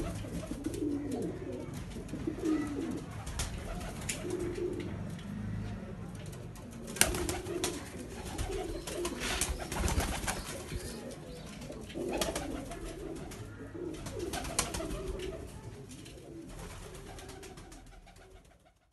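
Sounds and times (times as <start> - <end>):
pigeons cooing: 0.0 - 18.8.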